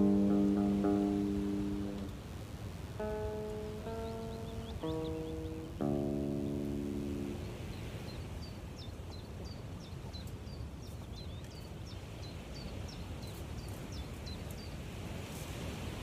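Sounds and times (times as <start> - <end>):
songbird chirping: 0.0 - 15.2.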